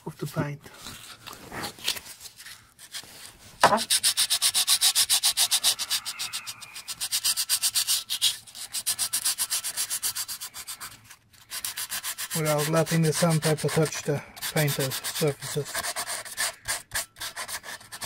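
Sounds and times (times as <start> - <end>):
sandpaper scratching on metal: 2.8 - 18.0.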